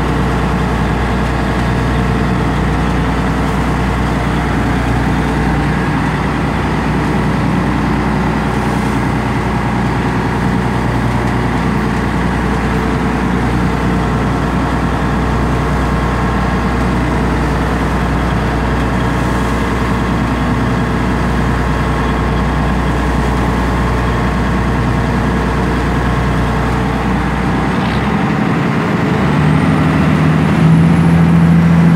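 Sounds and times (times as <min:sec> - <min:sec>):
boat engine running: 0:00.0 - 0:31.9
water rushing along hull: 0:00.0 - 0:31.9.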